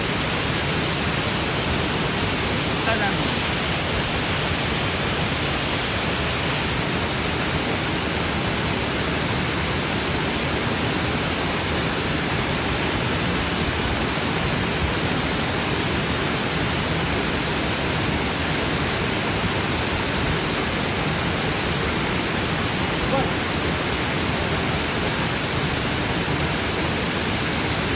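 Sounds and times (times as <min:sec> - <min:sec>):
waterfall roaring: 0:00.0 - 0:27.9.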